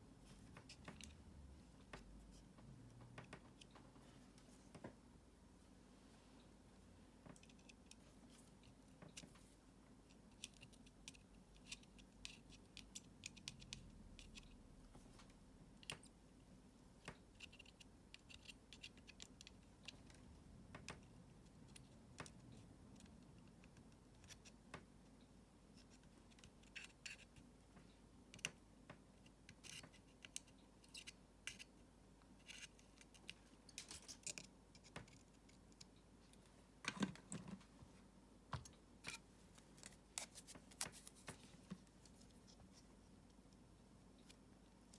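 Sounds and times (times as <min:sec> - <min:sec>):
small clicks and scratches of handwork: 0:00.2 - 0:05.0, 0:07.2 - 0:37.6, 0:38.6 - 0:44.9.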